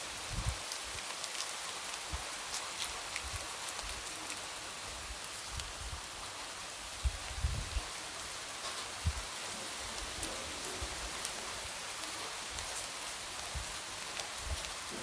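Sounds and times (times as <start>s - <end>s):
light rain on a window: 0.0s - 15.0s.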